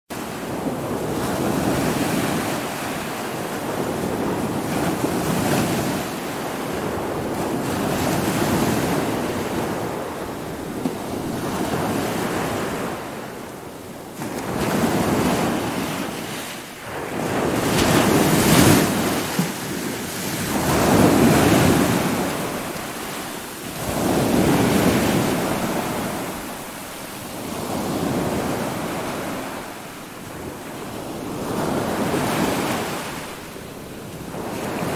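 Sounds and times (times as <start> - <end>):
waves surging and breaking: 0.1 - 34.9
wind: 0.1 - 34.9.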